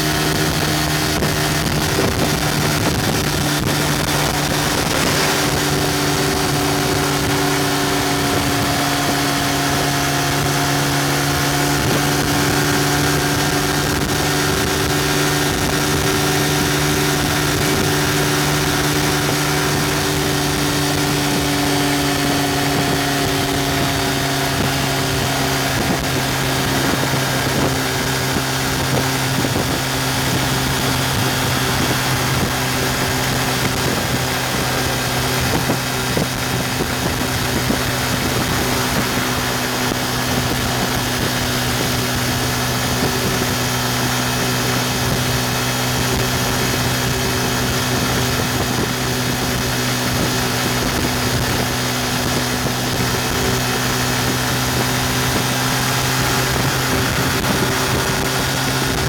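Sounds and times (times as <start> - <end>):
motorcycle engine at high revs: 0.0 - 59.0
wind noise on microphone: 0.0 - 59.0.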